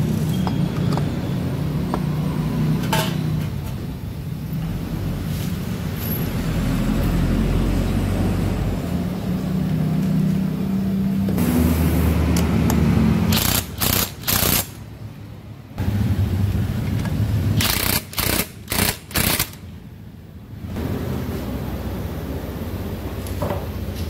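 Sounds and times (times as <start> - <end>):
motor vehicles rumbling: 0.0 - 24.0.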